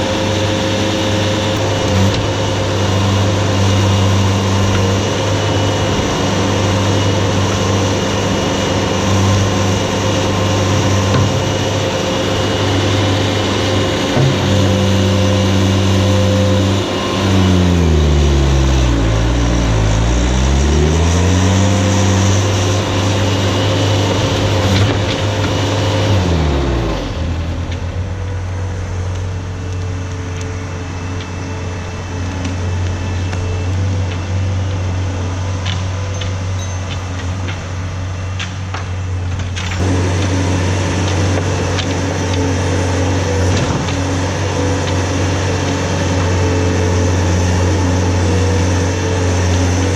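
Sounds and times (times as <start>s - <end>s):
skid steer engine running: 0.0s - 49.9s.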